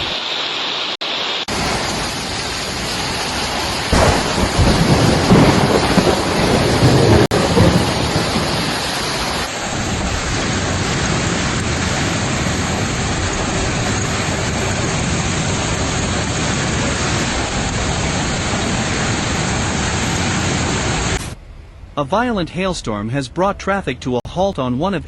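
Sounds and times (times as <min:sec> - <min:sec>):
heavy rain: 0:00.0 - 0:21.4
low thunder rumble: 0:01.5 - 0:22.7.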